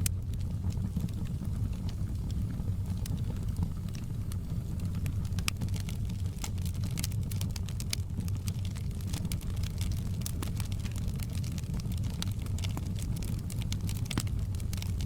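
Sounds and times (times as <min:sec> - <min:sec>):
logs crackling in fireplace: 0:00.0 - 0:15.0
low rumble of fire: 0:00.0 - 0:15.0.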